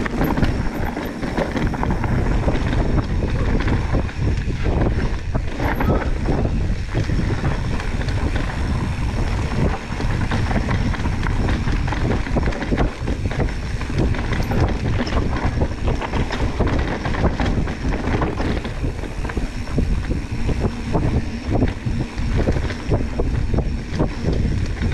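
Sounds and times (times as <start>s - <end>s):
bike knocks and rattles: 0.0s - 24.9s
mountain bike rumbling on trail: 0.0s - 24.9s
wind buffeting microphone: 0.0s - 24.9s.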